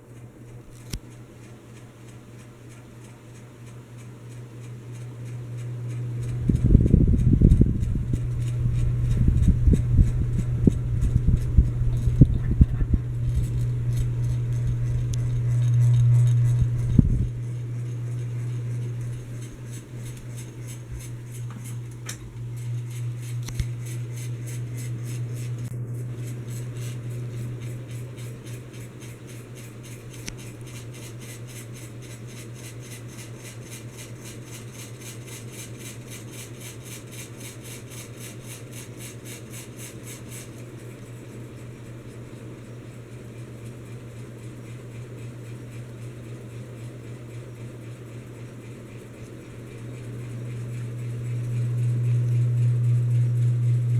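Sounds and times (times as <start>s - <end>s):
ceiling fan motor hum: 0.0s - 53.9s.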